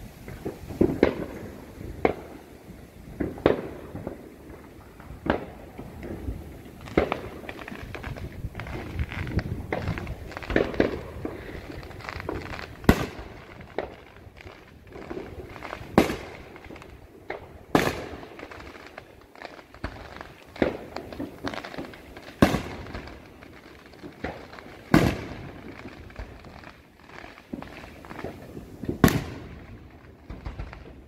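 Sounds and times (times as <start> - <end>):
fireworks bangs: 0.0 - 31.0
fireworks pops and crackling: 0.0 - 31.0.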